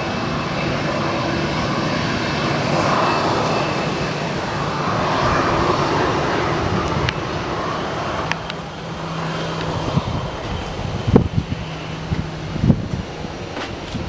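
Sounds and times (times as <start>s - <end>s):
jet engines at low thrust: 0.0s - 14.0s.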